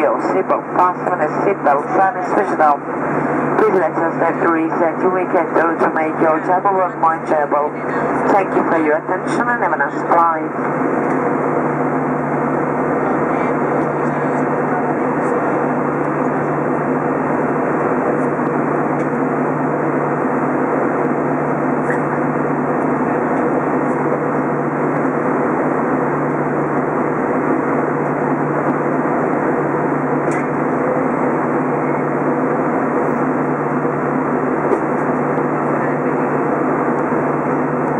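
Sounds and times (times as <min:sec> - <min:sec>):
airplane cabin drone: 0:00.0 - 0:37.9
jet engine and airflow noise: 0:00.0 - 0:37.9.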